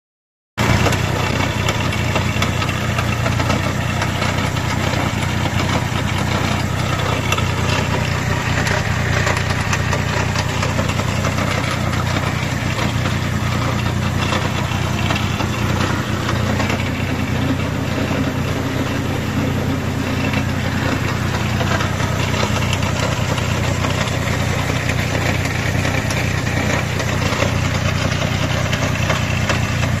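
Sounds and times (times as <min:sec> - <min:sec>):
vehicle engine humming: 0:00.6 - 0:30.0.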